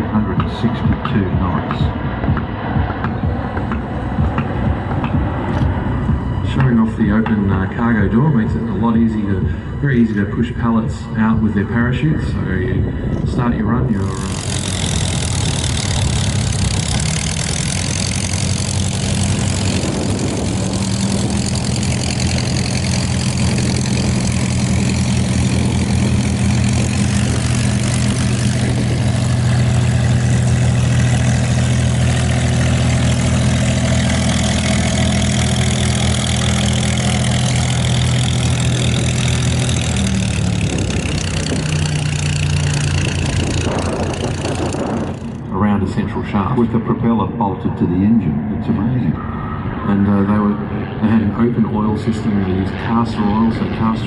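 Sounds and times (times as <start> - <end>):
propeller aircraft engine droning: 0.0 - 54.0.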